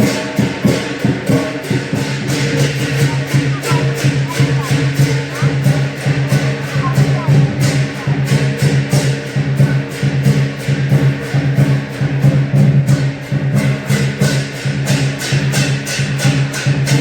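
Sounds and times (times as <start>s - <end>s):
cymbals clashing: 0.0s - 17.0s
drum: 0.0s - 17.0s
gong: 0.0s - 17.0s.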